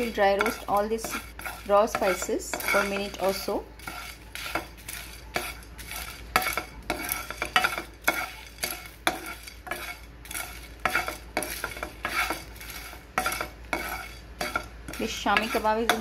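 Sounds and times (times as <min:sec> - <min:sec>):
spatula scraping pan: 0:00.0 - 0:16.0
spices rattling in pan: 0:00.0 - 0:16.0.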